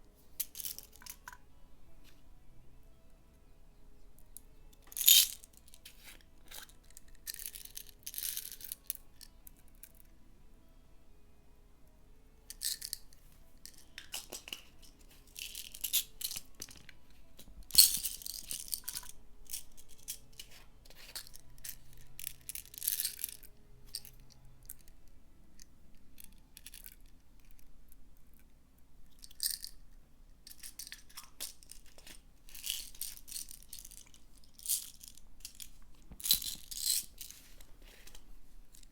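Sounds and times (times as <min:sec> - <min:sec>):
faint background music: 0:00.0 - 0:38.9.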